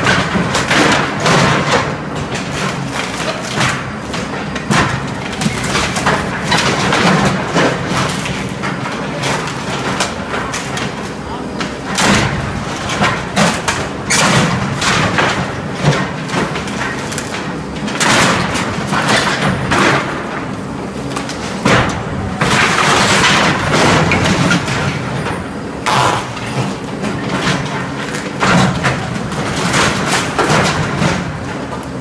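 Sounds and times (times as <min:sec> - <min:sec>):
splintering timber crashes: 0:00.0 - 0:11.0, 0:11.8 - 0:20.5, 0:21.1 - 0:31.8.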